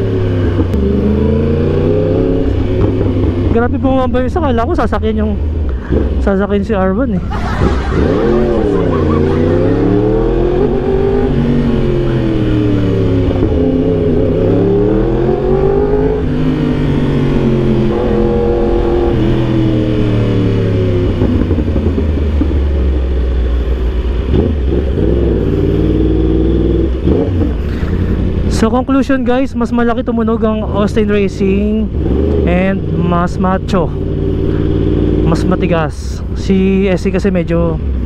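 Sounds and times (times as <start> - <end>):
motorcycle engine revving: 0.0 - 6.4, 7.2 - 28.8, 30.6 - 36.1.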